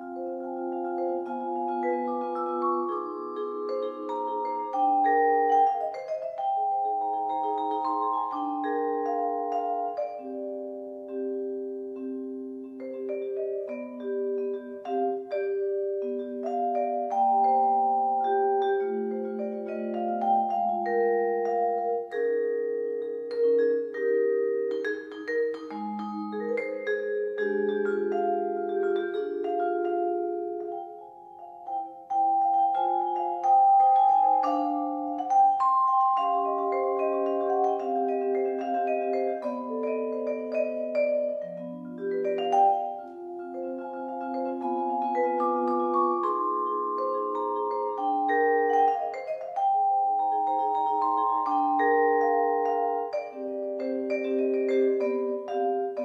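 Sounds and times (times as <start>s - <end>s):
vibraphone playing blues: 0.0s - 56.0s.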